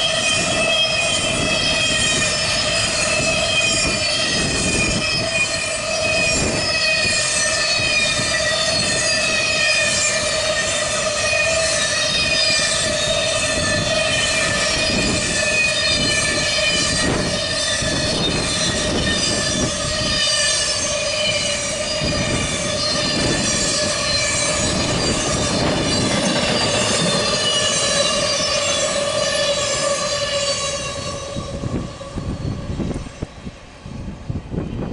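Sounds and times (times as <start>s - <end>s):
freight train wheels rumbling on rail: 0.0s - 34.9s
high ringing tone from rails: 0.0s - 34.9s.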